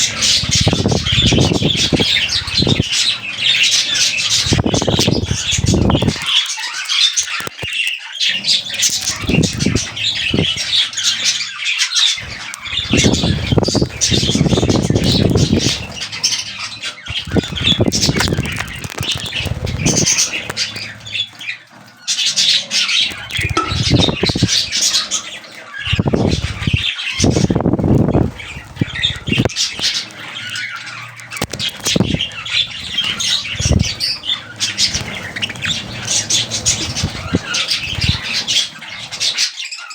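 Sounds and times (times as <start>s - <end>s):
rustling or fluttering: 0.0s - 39.5s
budgerigars chattering and squawking: 0.0s - 39.9s.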